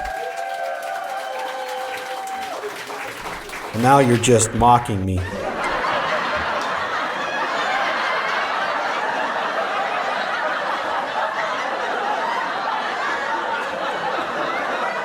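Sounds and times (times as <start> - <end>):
audience laughing: 2.0 - 15.0.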